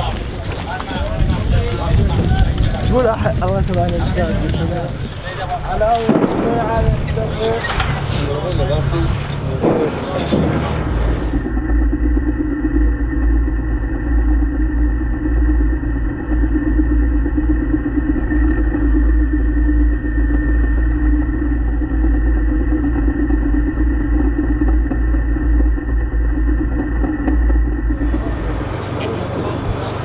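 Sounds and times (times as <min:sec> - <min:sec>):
tank engine droning: 0:00.0 - 0:30.0.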